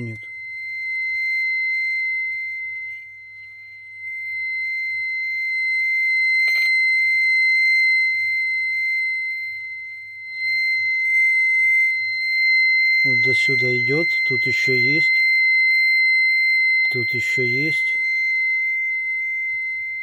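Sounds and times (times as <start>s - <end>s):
high-pitched probe tone: 0.0s - 20.0s.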